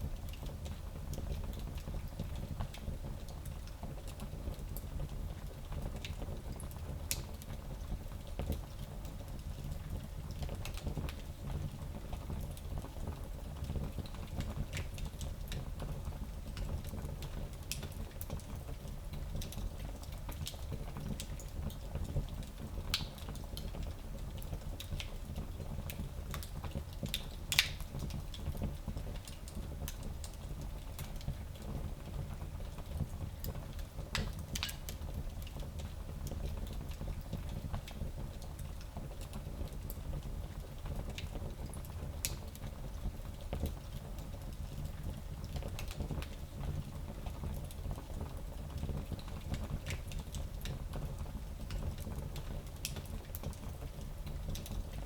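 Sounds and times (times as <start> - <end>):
fire crackling and popping: 5.8 - 11.3, 12.0 - 55.0.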